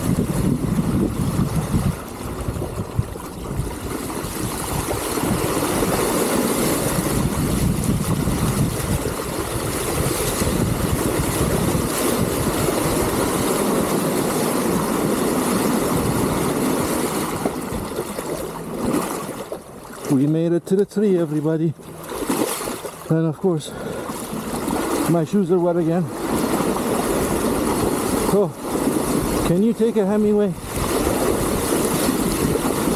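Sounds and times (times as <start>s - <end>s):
river water rushing and splashing: 0.0s - 32.9s.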